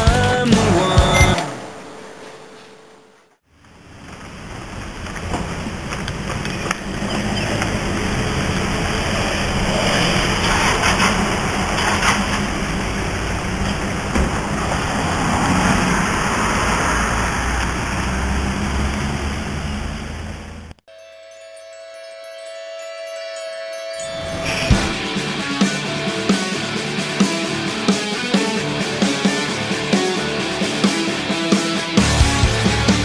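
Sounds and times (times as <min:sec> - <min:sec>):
road traffic noise: 0:00.0 - 0:20.8, 0:24.1 - 0:33.0.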